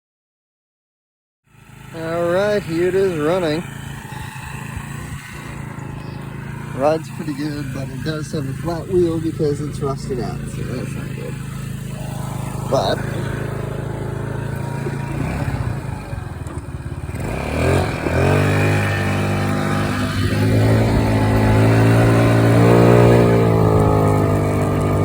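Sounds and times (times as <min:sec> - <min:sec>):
moped engine revving: 0:01.5 - 0:25.0.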